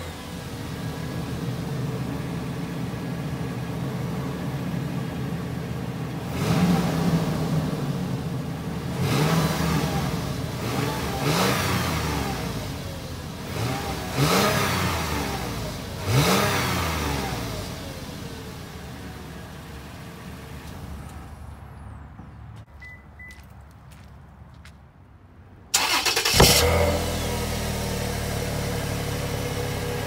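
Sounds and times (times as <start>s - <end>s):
engine revving and idling: 0.0s - 20.7s, 25.8s - 30.0s.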